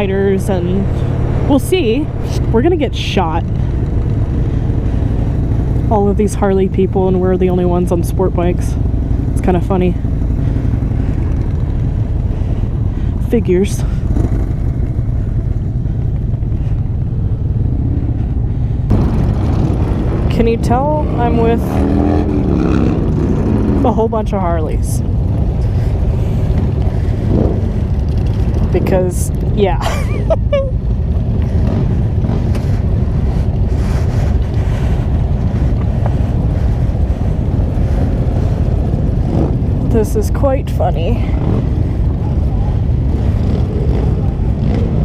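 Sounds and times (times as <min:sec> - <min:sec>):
motorcycle engine running: 0:00.0 - 0:45.0
wind rumbling on microphone: 0:00.0 - 0:45.0.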